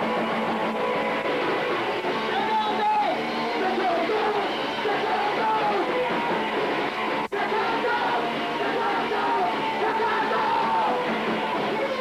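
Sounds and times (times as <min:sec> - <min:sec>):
distorted punk rock: 0:00.0 - 0:12.0
shouted vocals: 0:02.0 - 0:12.0.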